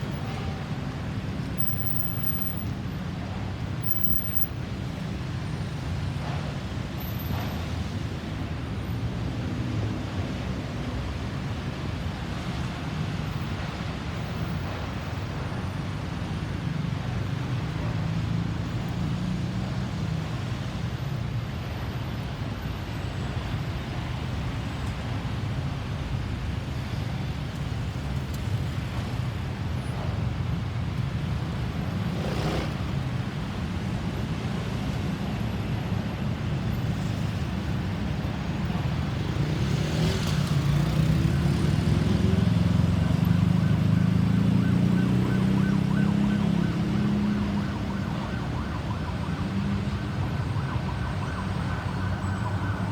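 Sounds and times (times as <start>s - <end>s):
traffic engines humming: 0.0s - 52.9s.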